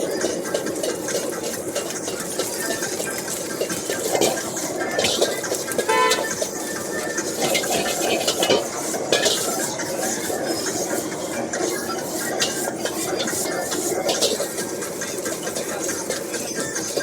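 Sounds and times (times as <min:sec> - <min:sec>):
metal spatula scraping wok: 0:00.2 - 0:17.0.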